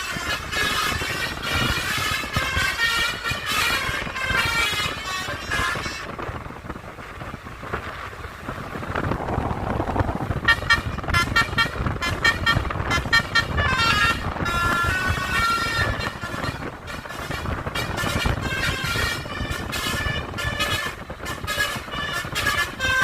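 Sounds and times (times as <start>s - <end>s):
multi-tone musical bus horn: 0.0s - 6.5s, 10.2s - 23.0s
engine and road noise: 0.0s - 23.0s.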